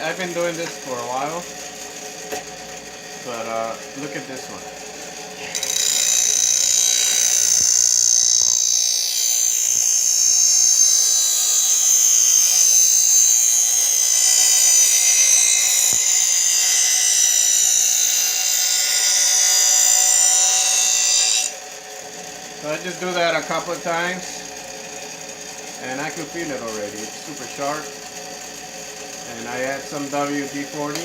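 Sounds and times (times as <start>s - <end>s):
blade grinding on grinding wheel: 0.0s - 31.0s.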